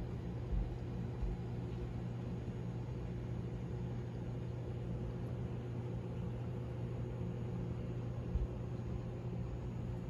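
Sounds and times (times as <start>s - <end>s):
aquarium pumps humming: 0.0s - 10.0s.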